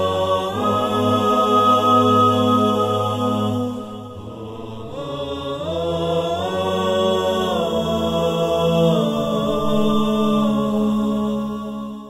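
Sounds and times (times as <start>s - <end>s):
slow vocal chanting: 0.0s - 12.0s
steady low drone: 0.0s - 12.0s.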